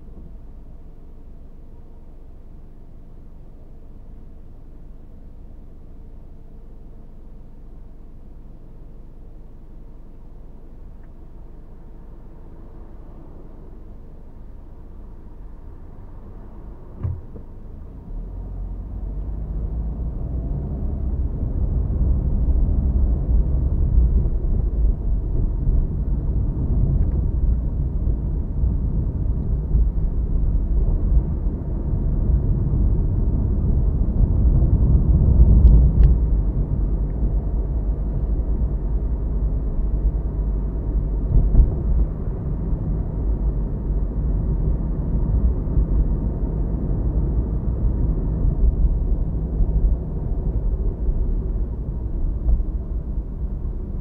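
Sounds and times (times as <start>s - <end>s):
car engine and tyres rumble: 0.0s - 54.0s.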